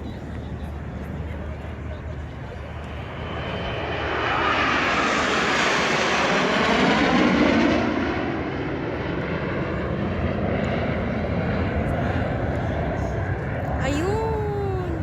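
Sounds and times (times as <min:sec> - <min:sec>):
aircraft engine flying past: 0:00.0 - 0:15.0.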